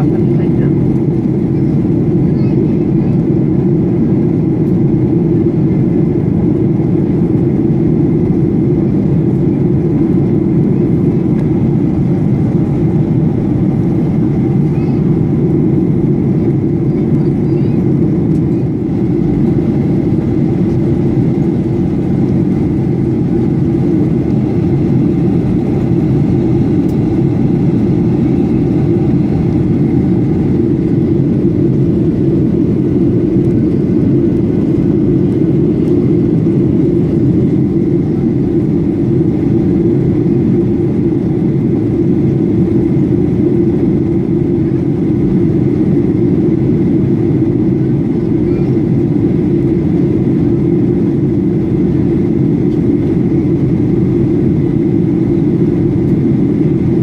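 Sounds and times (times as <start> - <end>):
jet engine rumble: 0.0 - 57.0.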